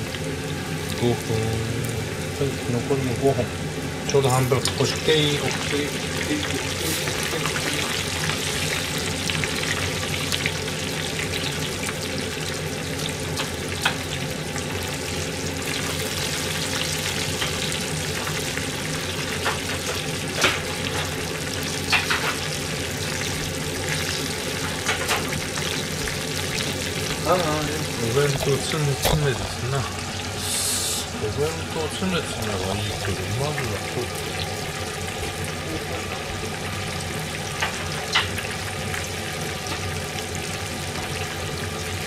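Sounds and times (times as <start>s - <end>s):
oil sizzling: 0.0s - 42.0s.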